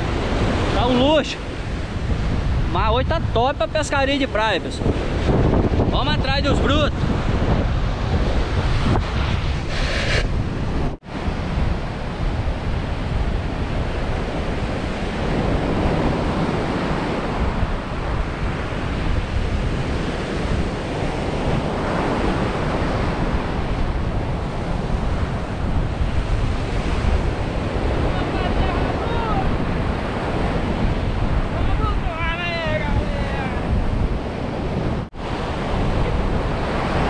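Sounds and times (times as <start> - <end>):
ocean waves breaking on beach: 0.0 - 37.0
wind buffeting microphone: 0.0 - 37.0.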